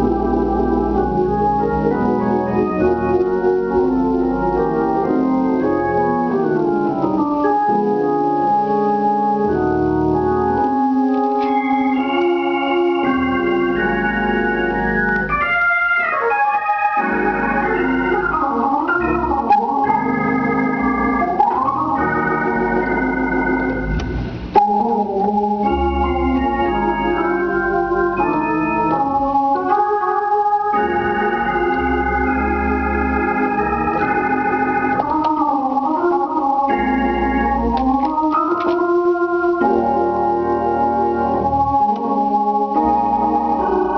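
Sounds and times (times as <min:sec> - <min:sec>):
organ playing chords and runs: 0:00.0 - 0:43.9.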